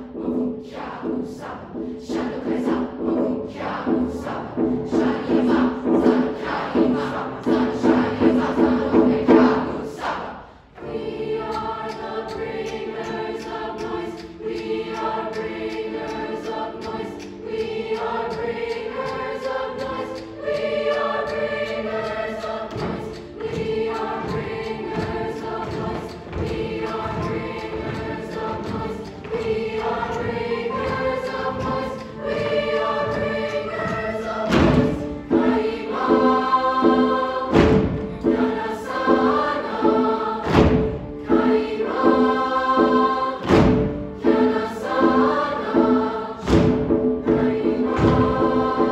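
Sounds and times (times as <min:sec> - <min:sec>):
piano accompaniment: 0:00.0 - 0:48.9
steady rhythmic pulse: 0:00.0 - 0:48.9
youth choir singing: 0:00.0 - 0:48.9.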